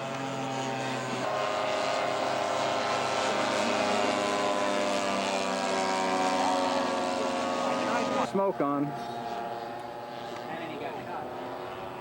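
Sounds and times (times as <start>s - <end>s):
model airplane engines droning: 0.0s - 12.0s.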